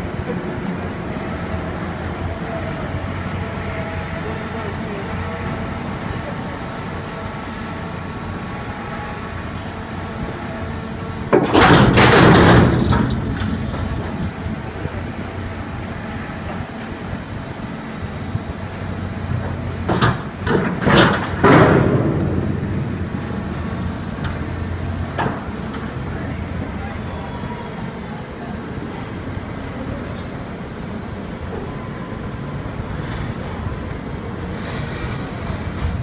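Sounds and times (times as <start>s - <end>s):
crane motor hum: 0.0s - 36.0s
loud rushes of noise: 0.0s - 36.0s.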